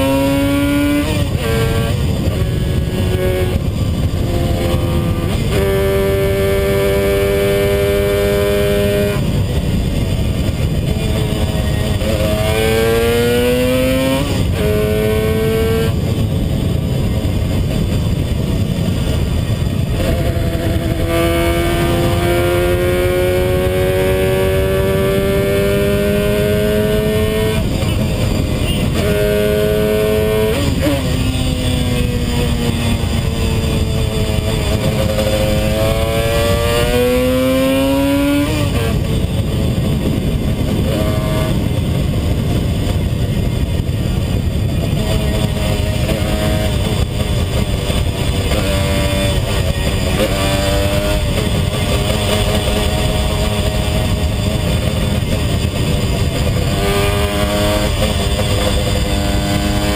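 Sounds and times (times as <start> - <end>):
motorcycle engine under way: 0.0 - 59.9.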